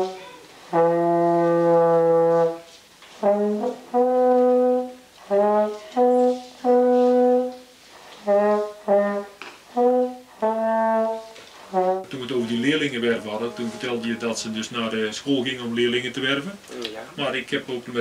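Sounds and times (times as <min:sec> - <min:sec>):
brass instrument playing slow notes: 0:00.0 - 0:14.6.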